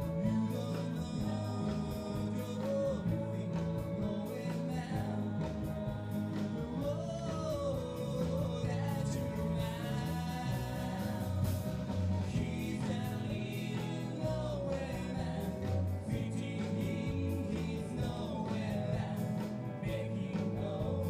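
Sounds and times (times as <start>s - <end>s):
live band playing: 0.0s - 21.0s
person singing: 0.0s - 21.0s
steady drum beat: 0.0s - 21.0s.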